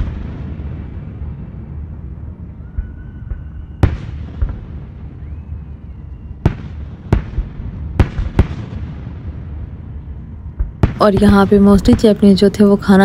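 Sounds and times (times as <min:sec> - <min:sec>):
fireworks bangs: 0:00.0 - 0:13.0
steady low rumble: 0:00.0 - 0:13.0.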